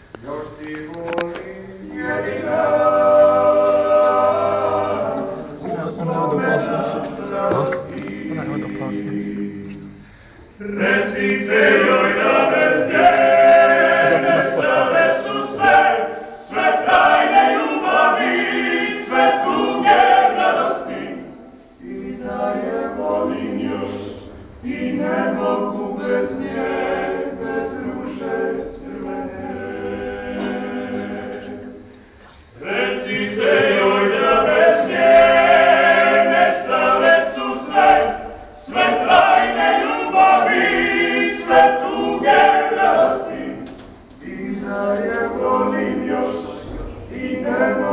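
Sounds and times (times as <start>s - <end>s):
a cappella vocal ensemble singing: 0.0s - 47.9s.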